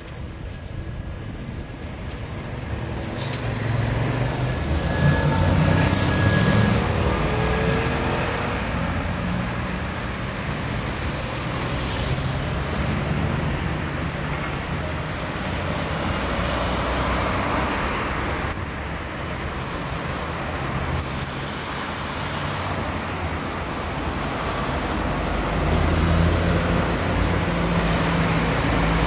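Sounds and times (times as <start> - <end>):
bus passing: 0.0 - 29.0
cars passing: 0.0 - 29.0.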